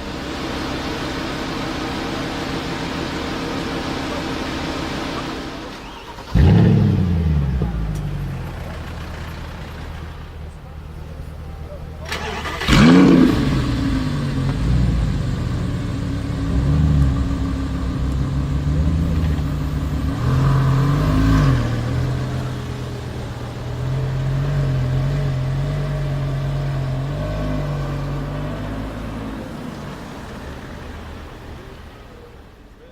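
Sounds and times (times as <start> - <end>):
engine throttle blips: 0.0 - 32.9
sports car engine idling: 0.0 - 32.9.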